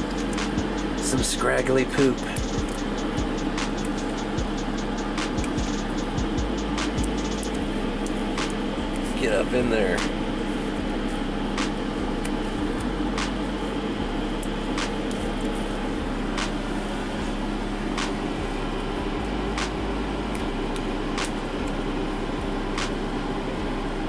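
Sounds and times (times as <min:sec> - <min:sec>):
fan humming: 0:00.0 - 0:24.0.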